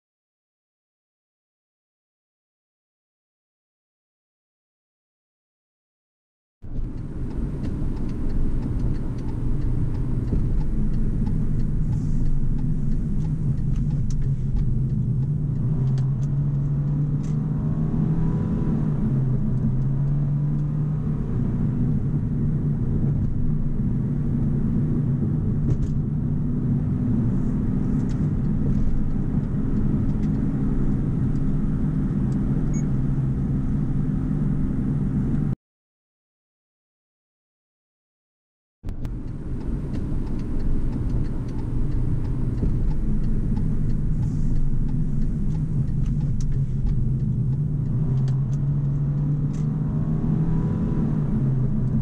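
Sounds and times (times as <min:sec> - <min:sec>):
car engine: 0:06.6 - 0:35.6, 0:38.9 - 0:52.0
road noise: 0:06.6 - 0:35.6, 0:38.9 - 0:52.0.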